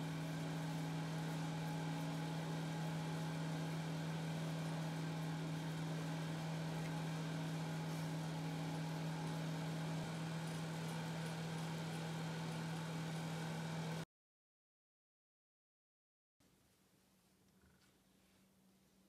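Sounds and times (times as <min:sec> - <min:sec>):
low mechanical hum: 0:00.0 - 0:14.1, 0:16.4 - 0:19.0.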